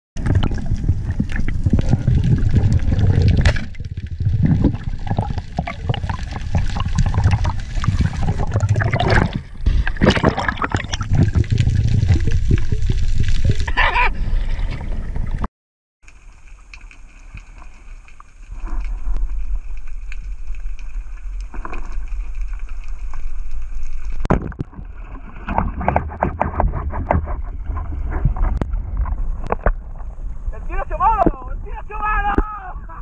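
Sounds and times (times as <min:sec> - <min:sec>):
muffled underwater rumble: 0:00.2 - 0:15.5, 0:16.2 - 0:30.7
water splashing: 0:00.2 - 0:15.5, 0:16.1 - 0:30.3.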